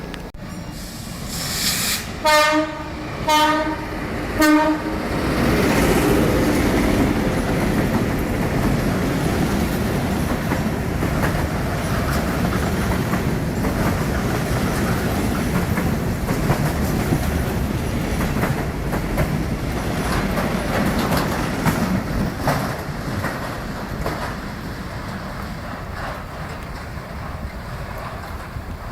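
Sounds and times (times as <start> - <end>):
train rumble: 0.0 - 28.9
train wheels clattering over joints: 5.1 - 28.9.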